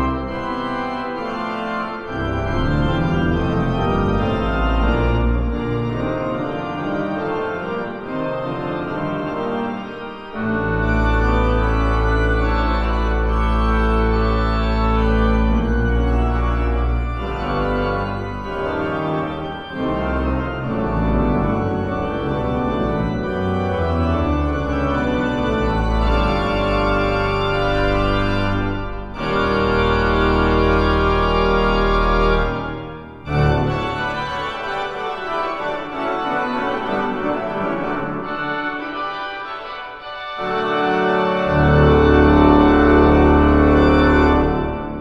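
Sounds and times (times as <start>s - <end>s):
pipe organ playing chords: 0.0s - 45.0s.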